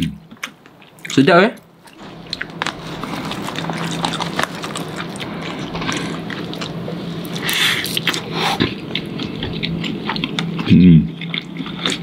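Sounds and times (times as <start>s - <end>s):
steady low hum: 0.0s - 12.0s
close-miked chewing: 1.8s - 12.0s.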